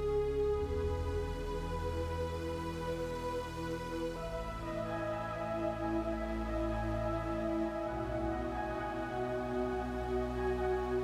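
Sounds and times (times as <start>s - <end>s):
soft sustained background music: 0.0s - 11.0s.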